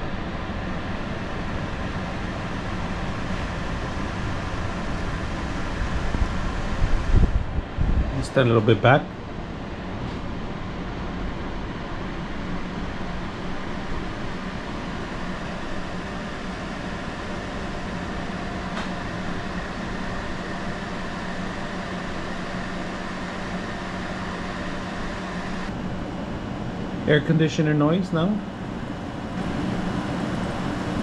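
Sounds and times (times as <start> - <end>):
air conditioner fan and hum: 0.0 - 31.0.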